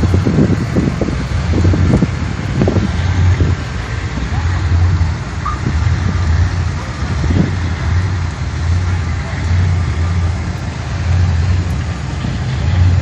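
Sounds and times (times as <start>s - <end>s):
engine running with pulsing hum: 0.0s - 13.0s.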